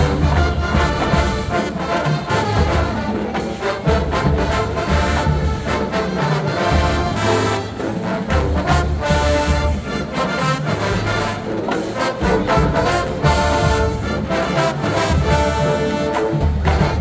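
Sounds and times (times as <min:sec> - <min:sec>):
brass chords: 0:00.0 - 0:17.0
drumline hits: 0:00.0 - 0:17.0.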